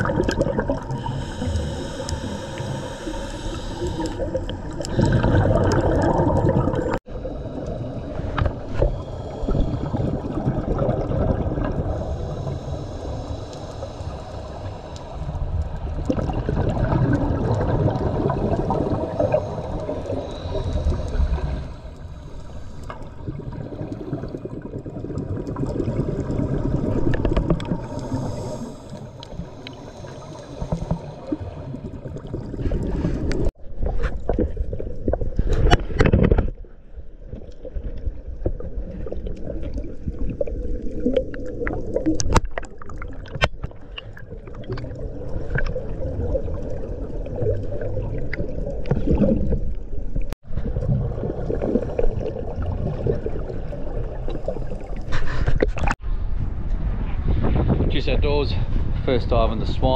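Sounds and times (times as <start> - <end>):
underwater exhaled bubbles gurgling: 0.0 - 36.1, 36.9 - 56.0.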